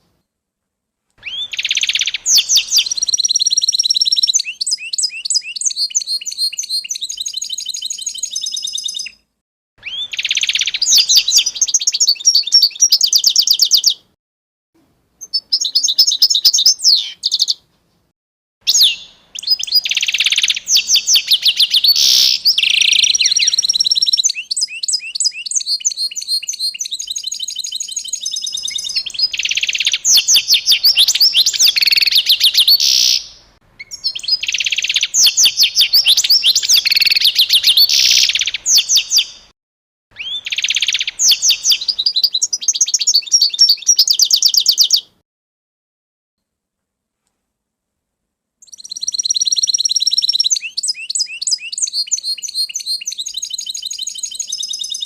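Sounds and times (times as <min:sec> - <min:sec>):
songbird singing rapid trills: 0:01.2 - 0:09.2, 0:09.8 - 0:14.0, 0:15.2 - 0:17.6, 0:18.7 - 0:39.5, 0:40.2 - 0:45.1, 0:48.6 - 0:55.0.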